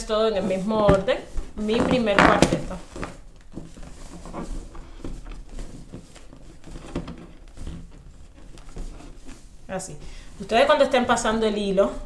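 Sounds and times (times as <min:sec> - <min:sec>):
balloons rubbing together: 0:00.0 - 0:12.0.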